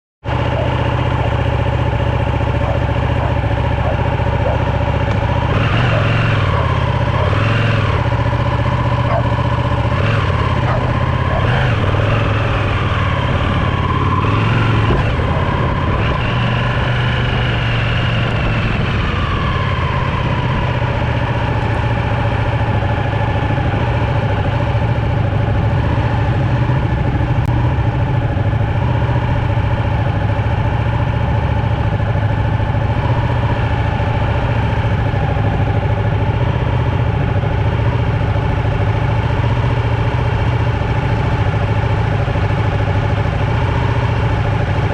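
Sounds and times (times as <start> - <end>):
motorcycle engine revving near idle: 0.3 - 44.9.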